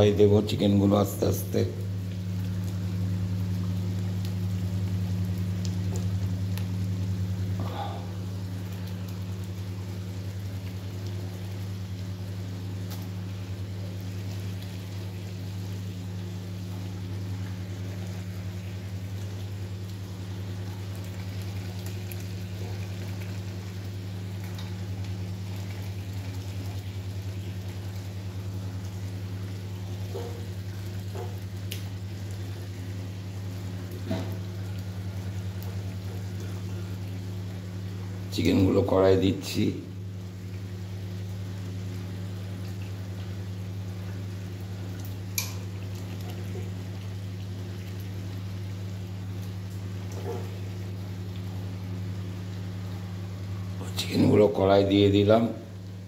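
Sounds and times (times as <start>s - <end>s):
sauce sizzling and bubbling: 0.0s - 56.0s
steady low hum: 0.0s - 56.0s.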